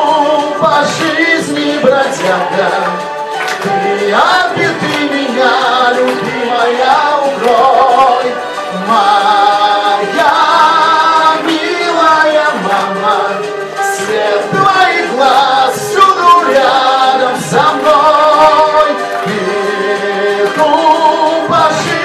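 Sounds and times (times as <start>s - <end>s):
karaoke backing track: 0.0s - 22.0s
man singing into microphone: 0.0s - 22.0s.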